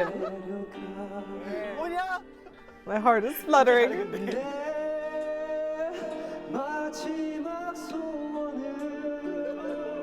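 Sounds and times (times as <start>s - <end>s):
backing track: 0.0s - 10.0s
person singing karaoke ballad: 0.0s - 10.0s.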